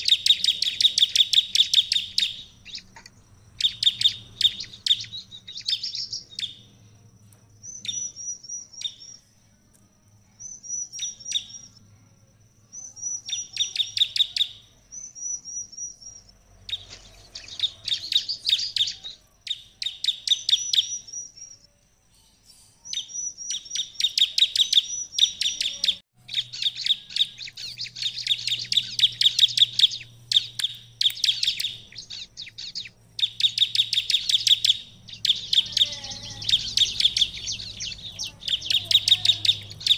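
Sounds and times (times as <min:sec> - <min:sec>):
bird singing sharp high chirps: 0:00.0 - 0:07.0, 0:07.6 - 0:09.4, 0:10.2 - 0:11.8, 0:12.7 - 0:39.9.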